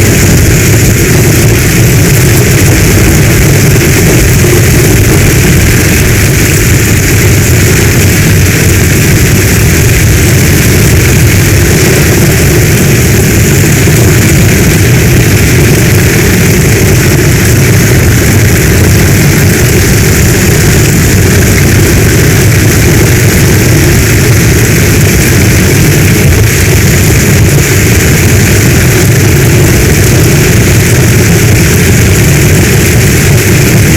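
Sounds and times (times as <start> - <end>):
heavy rain falling: 0.0 - 33.9
low rumble: 0.0 - 33.9.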